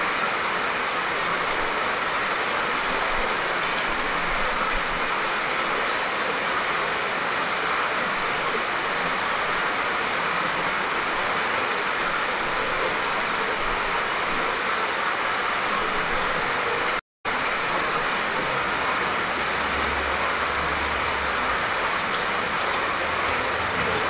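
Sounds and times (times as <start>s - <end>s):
light rain falling: 0.0s - 24.0s.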